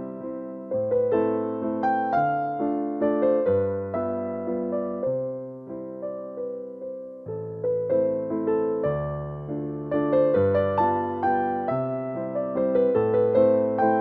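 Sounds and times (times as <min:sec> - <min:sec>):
solo piano waltz: 0:00.0 - 0:14.0.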